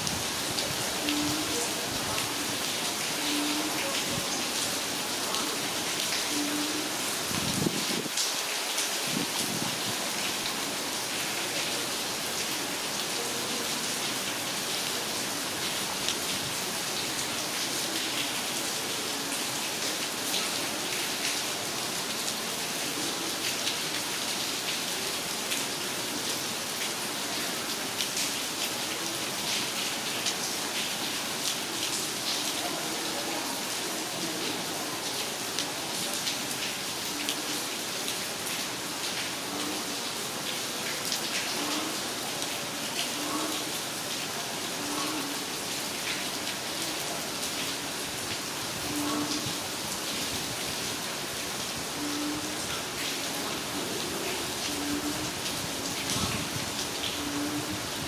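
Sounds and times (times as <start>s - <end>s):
heavy rain falling: 0.0s - 58.0s
raindrops pattering on hard surfaces: 0.0s - 58.0s.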